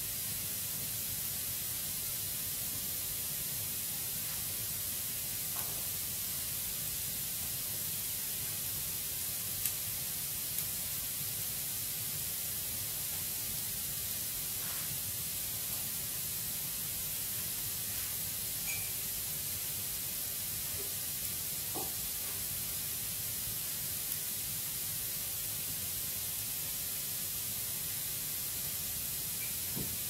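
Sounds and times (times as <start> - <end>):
wood fire hissing and crackling: 0.0 - 30.0.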